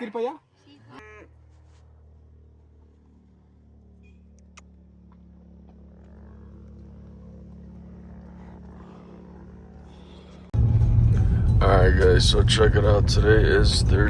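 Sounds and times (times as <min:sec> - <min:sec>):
atv engine running: 0:00.8 - 0:14.0.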